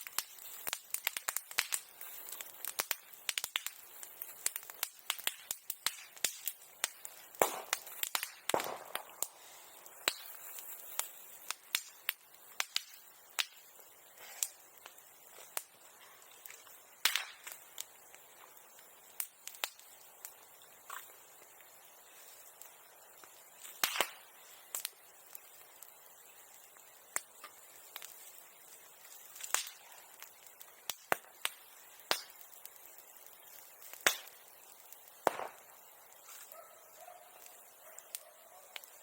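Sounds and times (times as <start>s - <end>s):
bonfire crackling and popping: 0.0s - 39.0s.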